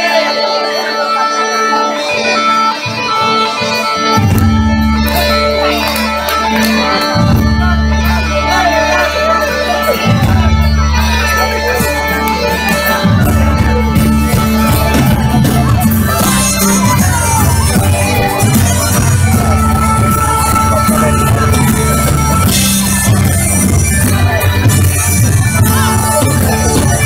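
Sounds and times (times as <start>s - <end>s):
bagpipe droning: 0.0s - 27.0s
folk band with bass: 0.0s - 27.0s.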